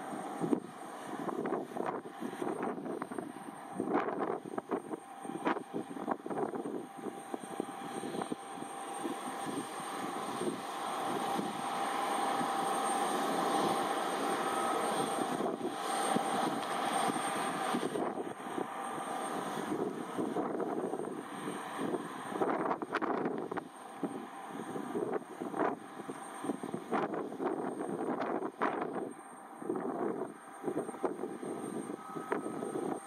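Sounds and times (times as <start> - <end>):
jet engine rush and whine: 0.0 - 33.0.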